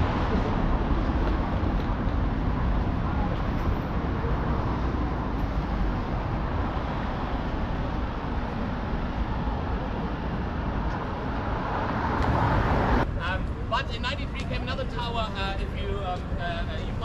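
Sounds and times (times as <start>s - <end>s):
cars driving past: 0.0s - 13.6s.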